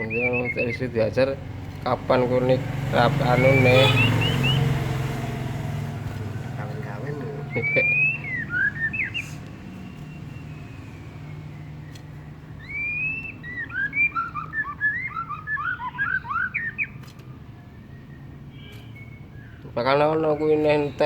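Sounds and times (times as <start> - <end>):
songbird chirping and whistling: 0.0 - 1.3, 3.0 - 5.1, 6.5 - 21.0.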